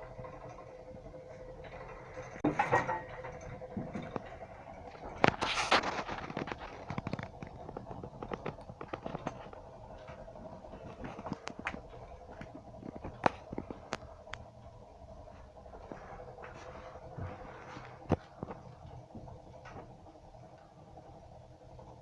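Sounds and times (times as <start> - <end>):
steady hum: 0.0 - 22.0
wood fire crackling and popping: 0.1 - 22.0.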